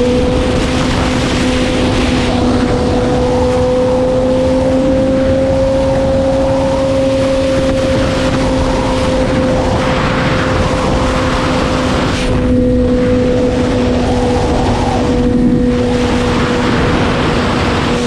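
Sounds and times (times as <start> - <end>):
motorcycle engine high revs: 0.0 - 18.0
wind rush: 0.0 - 18.0.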